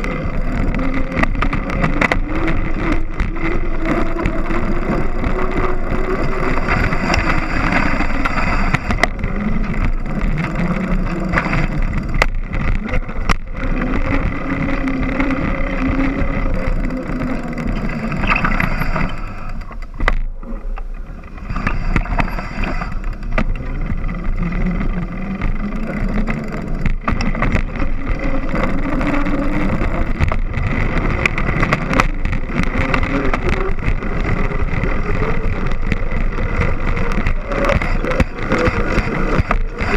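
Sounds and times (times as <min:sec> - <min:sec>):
bike tyre humming on pavement: 0:00.0 - 0:39.9.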